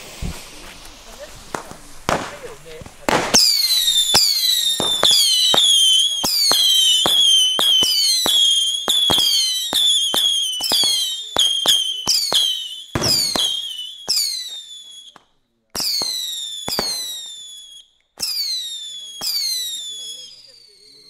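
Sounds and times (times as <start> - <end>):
firework pops: 0.0 - 17.5
firework whistling falling in pitch: 0.0 - 21.0.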